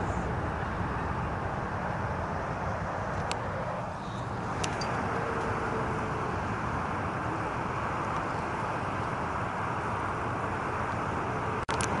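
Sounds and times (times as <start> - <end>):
highway traffic rush: 0.0 - 12.0.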